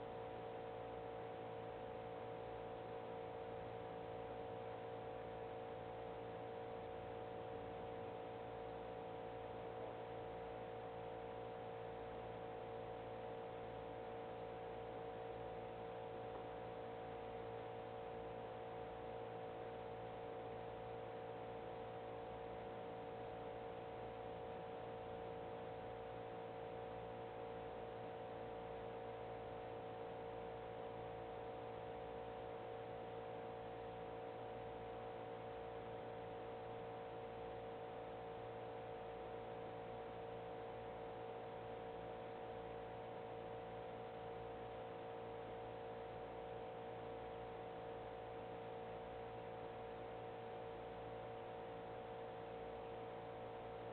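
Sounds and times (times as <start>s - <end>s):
faint constant tones: 0.0s - 53.9s.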